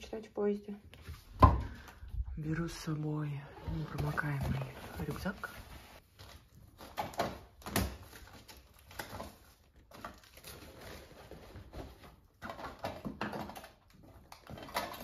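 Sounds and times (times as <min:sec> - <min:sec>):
rustling of items being packed: 0:01.0 - 0:15.0.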